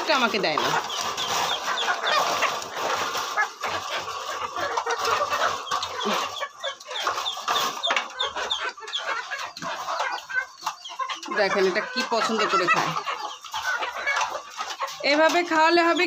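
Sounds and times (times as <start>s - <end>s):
hens clucking excitedly: 0.0s - 16.0s.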